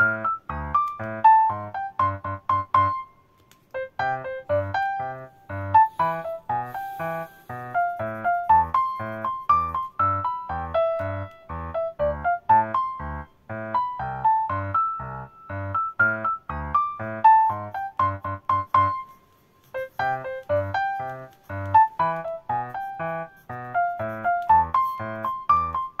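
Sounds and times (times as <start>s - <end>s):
keyboard melody over steady beat: 0.0s - 26.0s.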